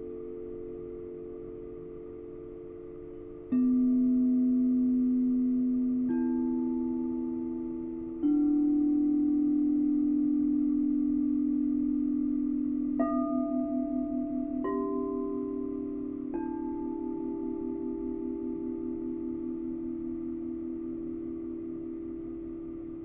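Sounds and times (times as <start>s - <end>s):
singing bowls ringing: 0.0s - 23.0s.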